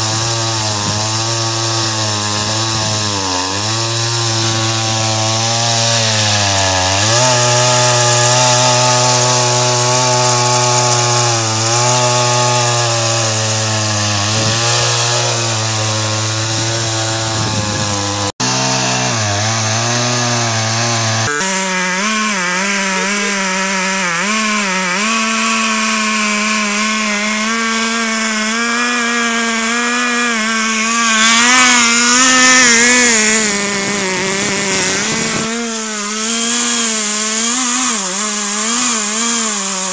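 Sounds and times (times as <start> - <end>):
chainsaw cutting log at high revs: 0.0 - 39.9.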